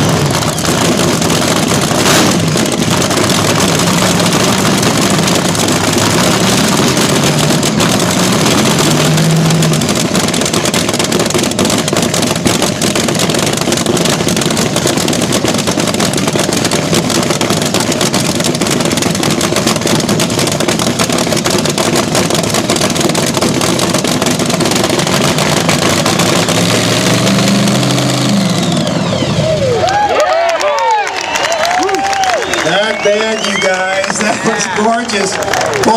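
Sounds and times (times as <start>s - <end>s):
drag racer engine running loud: 0.0s - 30.4s, 31.9s - 35.9s.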